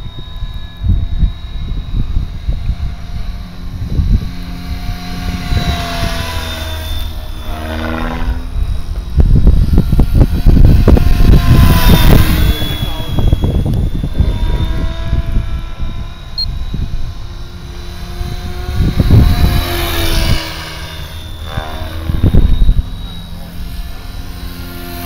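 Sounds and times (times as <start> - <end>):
rc helicopter motor whine: 0.0 - 25.0
wind on microphone: 0.0 - 25.0.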